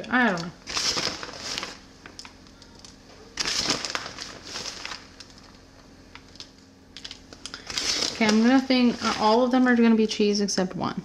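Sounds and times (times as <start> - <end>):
faint steady hum: 0.0 - 11.0
plastic bag crinkling: 0.2 - 9.8.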